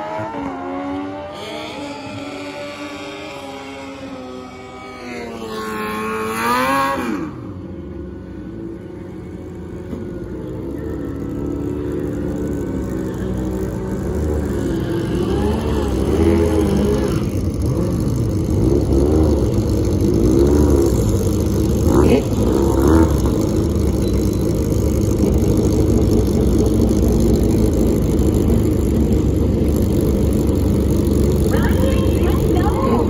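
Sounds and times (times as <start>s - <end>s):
engine revving: 0.0s - 7.6s, 10.6s - 33.0s.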